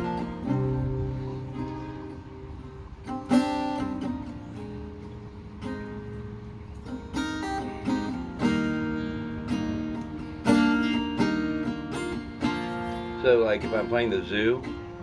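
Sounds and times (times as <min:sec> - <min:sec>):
acoustic guitar strummed slowly: 0:00.0 - 0:15.0.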